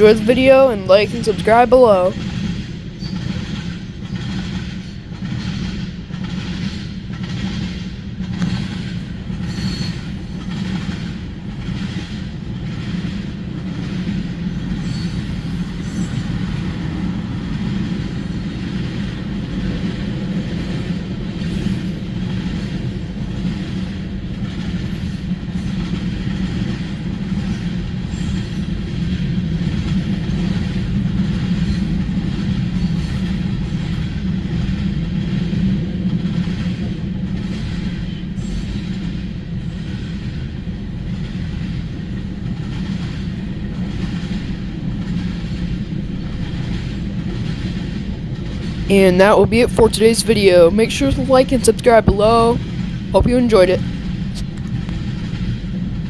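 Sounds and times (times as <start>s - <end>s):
freight train rumbling: 0.0s - 56.0s
train wheels clicking over rail joints: 2.2s - 48.9s, 53.8s - 56.0s.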